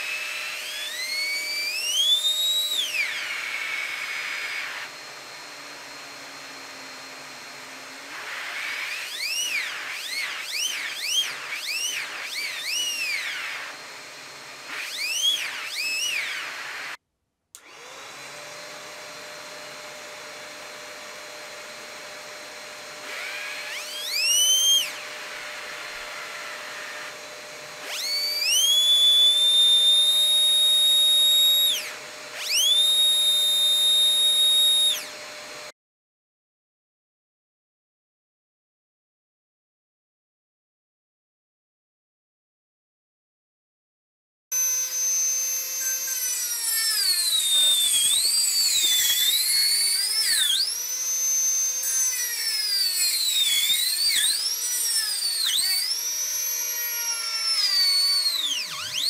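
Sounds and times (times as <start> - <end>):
air turbine rotary tool whine: 0.0 - 17.0, 17.6 - 35.7, 44.6 - 59.0
vacuum cleaner drone: 0.0 - 17.0, 17.6 - 35.7, 44.6 - 59.0.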